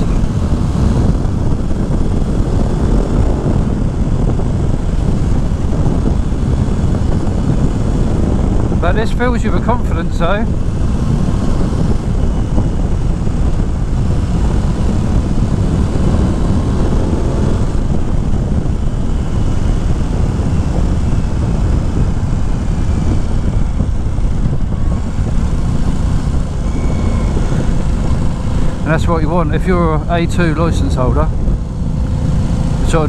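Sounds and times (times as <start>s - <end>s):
motorcycle engine running: 0.0s - 33.0s
wind noise: 0.0s - 33.0s.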